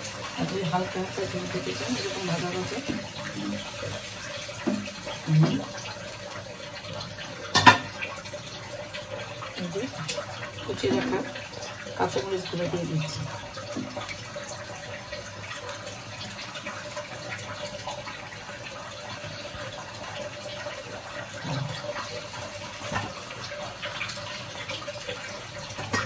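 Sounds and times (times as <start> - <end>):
curry sizzling and bubbling: 0.0 - 26.0.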